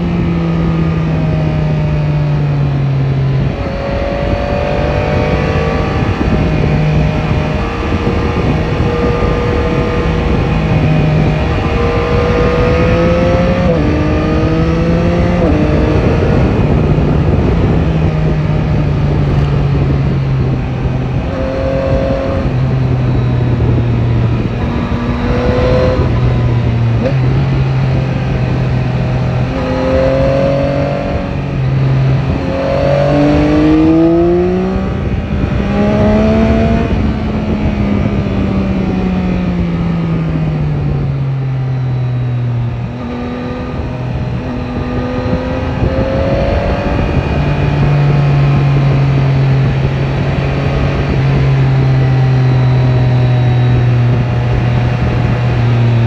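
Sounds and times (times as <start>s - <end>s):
motorcycle engine revving: 0.0s - 56.0s
wind and road rush: 0.0s - 56.0s.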